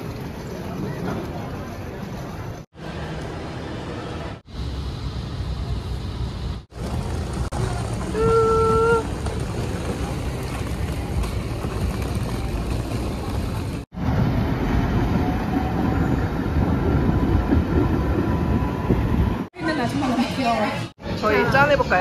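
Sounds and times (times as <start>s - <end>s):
vehicle rumble: 0.0s - 22.0s.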